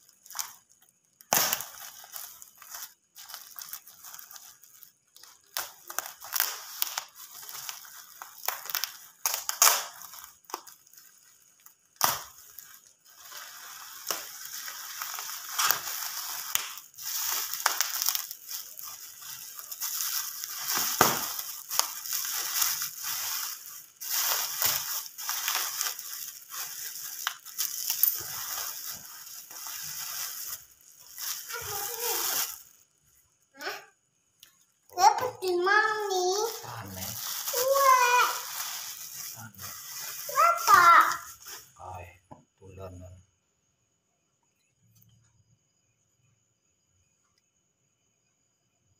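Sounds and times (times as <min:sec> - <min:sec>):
plastic packaging crinkling: 0:00.0 - 0:32.8, 0:35.4 - 0:41.8.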